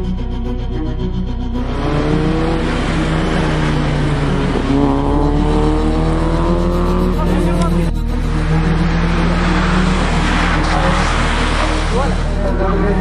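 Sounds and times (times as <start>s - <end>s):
background music: 0.0s - 13.0s
racing car engine accelerating: 0.0s - 13.0s.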